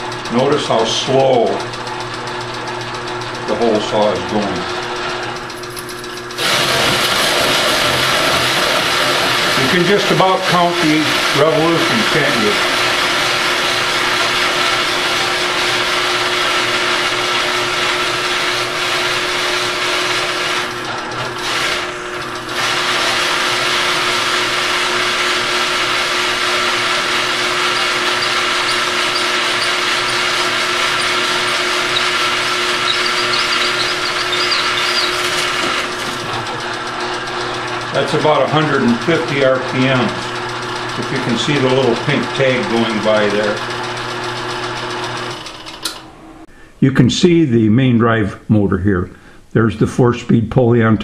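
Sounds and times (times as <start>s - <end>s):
hole saw cutting plywood: 0.0s - 45.7s
drill press motor hum: 0.0s - 46.6s.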